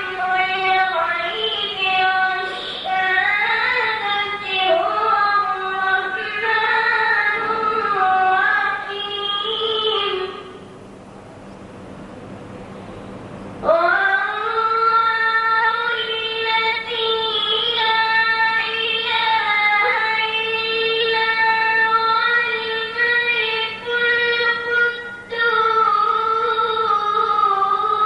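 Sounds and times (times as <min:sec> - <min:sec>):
boy chanting melodically: 0:00.0 - 0:10.6, 0:13.6 - 0:28.0.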